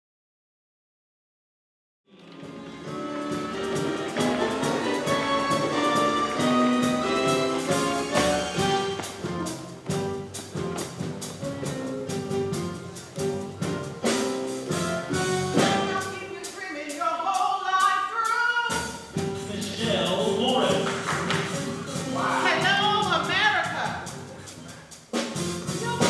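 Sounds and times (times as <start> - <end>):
orchestral show music: 2.1 - 26.0.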